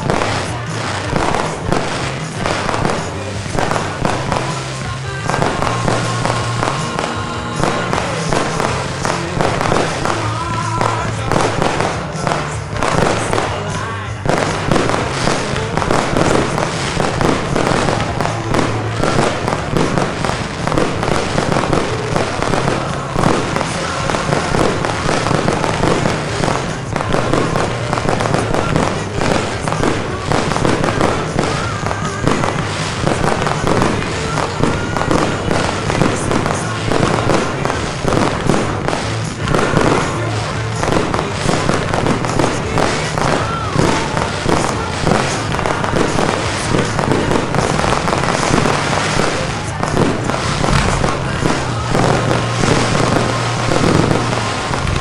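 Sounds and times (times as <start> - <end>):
fireworks bangs and crackling: 0.0 - 55.0
music playing: 0.0 - 55.0.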